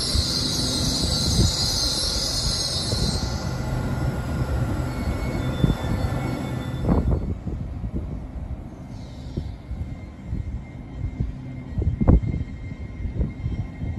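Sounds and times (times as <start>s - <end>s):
train brakes squealing: 0.0s - 7.6s, 8.6s - 13.9s
low train rumble: 0.0s - 13.9s.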